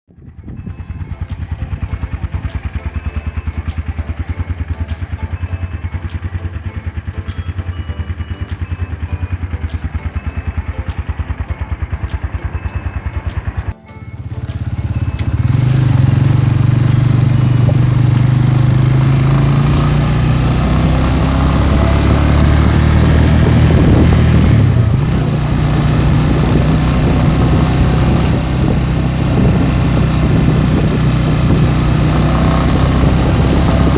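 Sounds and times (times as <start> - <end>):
motorcycle engine: 0.0 - 33.9.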